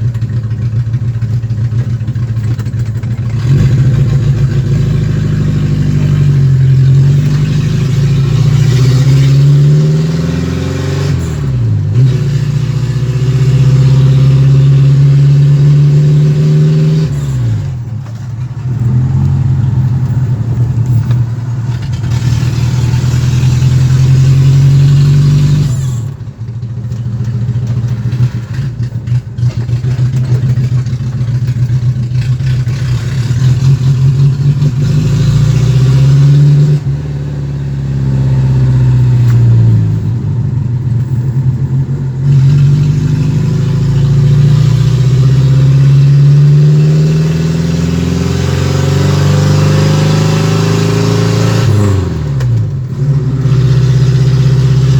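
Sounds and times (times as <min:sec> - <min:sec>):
car engine revving: 0:01.2 - 0:54.9.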